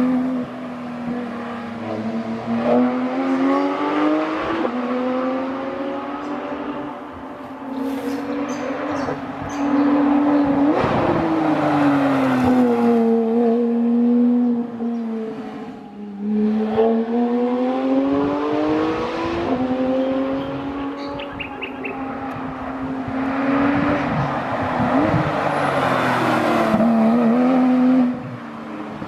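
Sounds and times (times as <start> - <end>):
sports car engine accelerating: 0.0 - 29.0.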